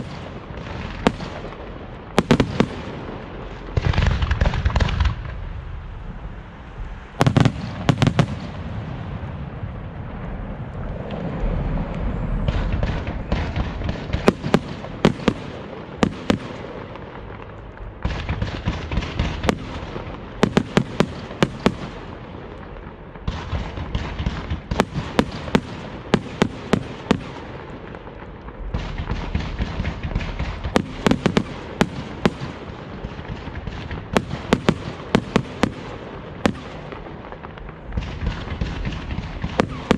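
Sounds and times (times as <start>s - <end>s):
fireworks bursting with sharp bangs: 0.0s - 39.9s
fireworks crackling and rumbling: 0.0s - 39.9s.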